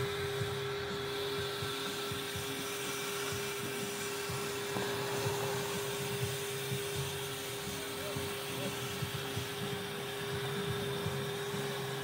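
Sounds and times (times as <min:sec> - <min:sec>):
constant machine whine: 0:00.0 - 0:12.0
machinery hum and hiss: 0:00.0 - 0:12.0.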